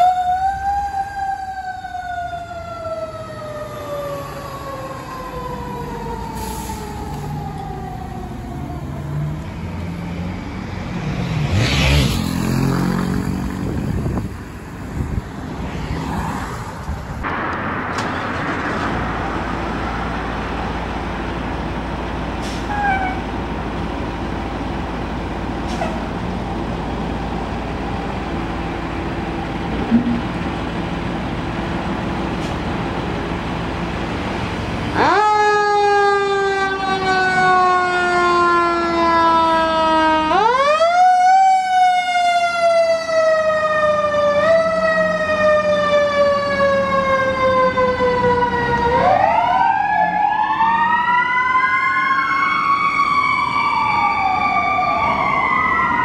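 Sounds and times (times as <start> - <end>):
fire engine siren: 0.0 - 56.0.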